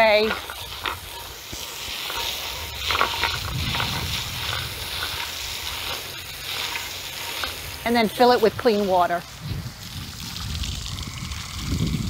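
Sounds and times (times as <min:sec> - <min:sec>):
hose spray splashing into bowl: 0:00.0 - 0:12.0.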